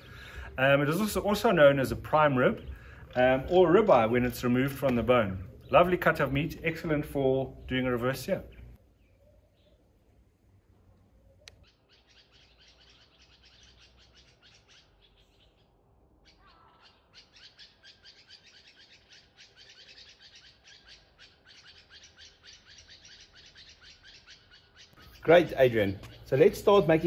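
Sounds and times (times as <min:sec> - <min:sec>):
faint bird chirping: 0:00.0 - 0:27.0.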